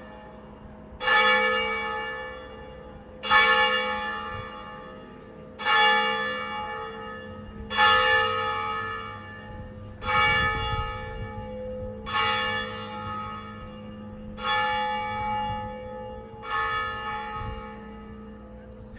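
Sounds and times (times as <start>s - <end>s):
church bell tolling: 0.0s - 18.9s.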